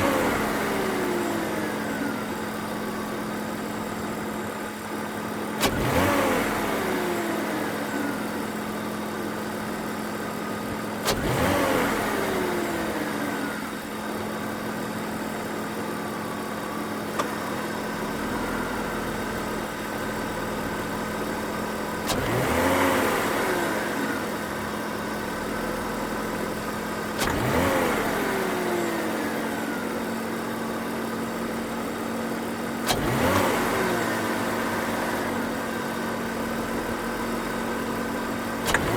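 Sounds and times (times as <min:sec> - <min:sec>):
car engine revving: 0:00.0 - 0:04.4, 0:05.6 - 0:08.8, 0:11.0 - 0:13.7, 0:17.2 - 0:38.9.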